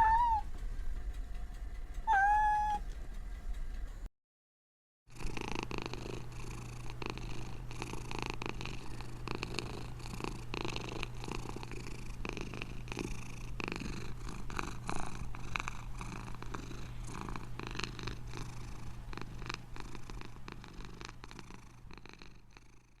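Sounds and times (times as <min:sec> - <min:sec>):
cat purring: 0:00.0 - 0:04.0, 0:05.1 - 0:23.0.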